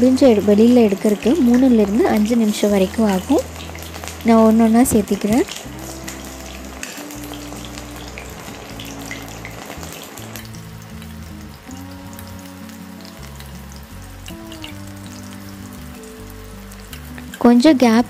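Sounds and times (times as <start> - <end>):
chicken deep-frying in oil: 0.0 - 18.0
soft background music: 0.0 - 18.0.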